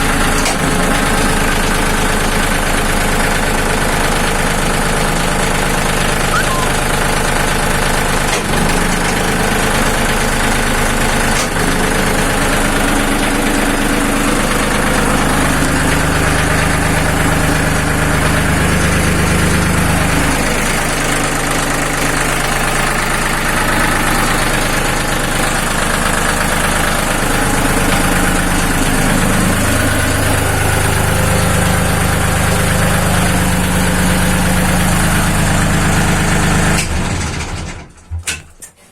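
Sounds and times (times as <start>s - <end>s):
diesel engine running: 0.0s - 37.7s.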